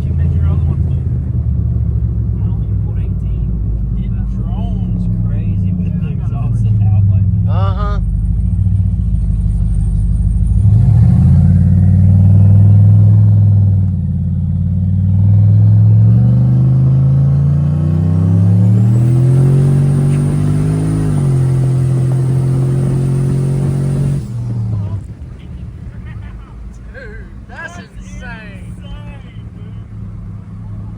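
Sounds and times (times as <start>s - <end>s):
truck engine accelerating hard: 0.0s - 30.9s.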